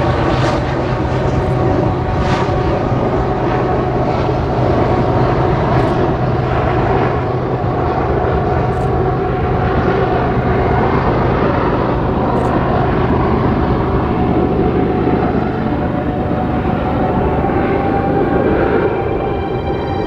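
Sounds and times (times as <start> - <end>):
propeller airplane engine drone: 0.0 - 20.0.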